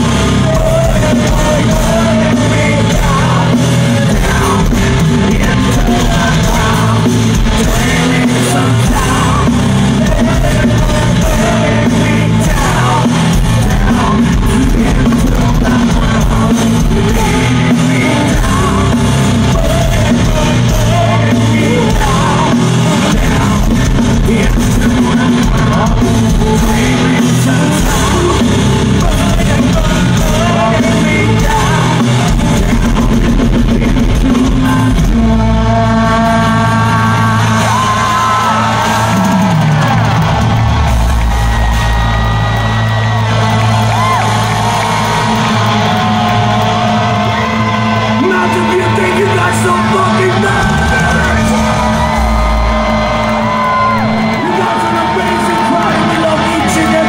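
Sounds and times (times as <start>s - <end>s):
live metal band playing: 0.0s - 57.0s.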